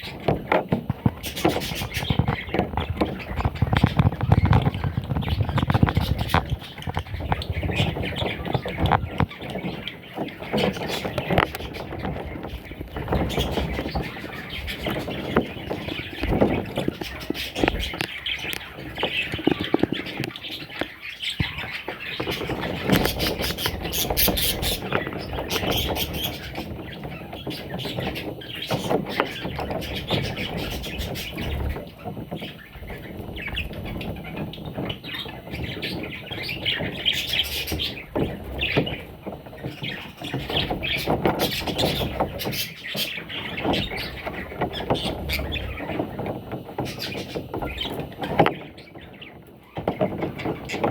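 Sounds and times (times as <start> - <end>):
budgerigar chicks squawking: 0.0 - 50.9.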